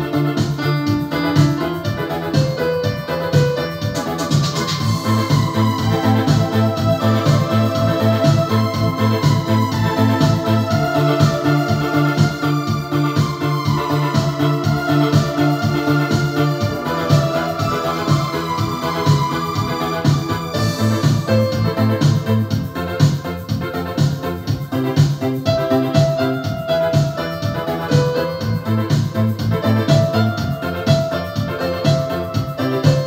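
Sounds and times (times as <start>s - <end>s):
keyboard melody and chords: 0.0s - 33.0s
pulsing low accompaniment: 0.0s - 33.0s.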